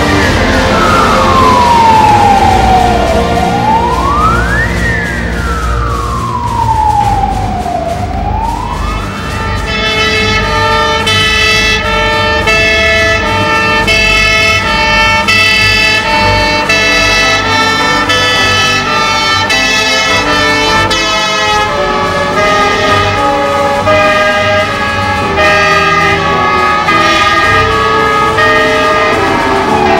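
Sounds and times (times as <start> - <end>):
truck engine rumbling: 0.0 - 29.9
two-tone fire engine siren: 0.0 - 29.9.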